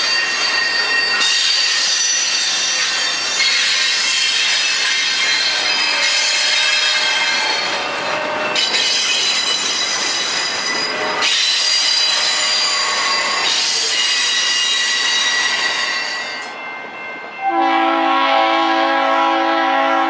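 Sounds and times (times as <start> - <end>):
train wheels squealing on rails: 0.0 - 17.9
railcars rolling: 0.0 - 20.0.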